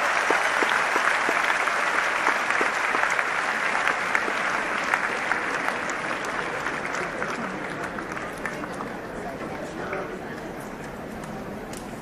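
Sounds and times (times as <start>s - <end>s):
crowd applauding: 0.0s - 10.5s.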